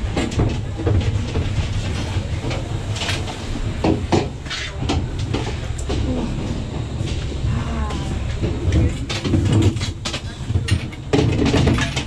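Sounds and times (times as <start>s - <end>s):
gondola cabin rumbling: 0.0s - 12.0s.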